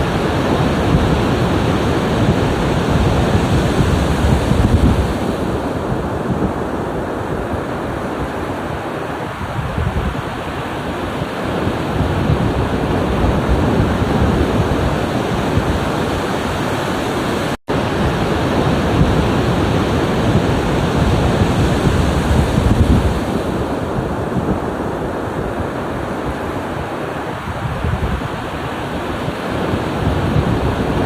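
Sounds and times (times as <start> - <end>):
ocean surf breaking: 0.0 - 31.0.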